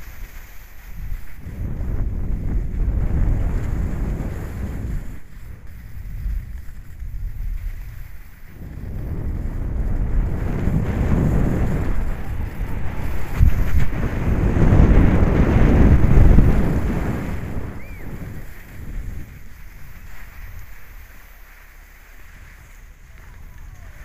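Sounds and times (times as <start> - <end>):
wind buffeting microphone: 0.9 - 21.1.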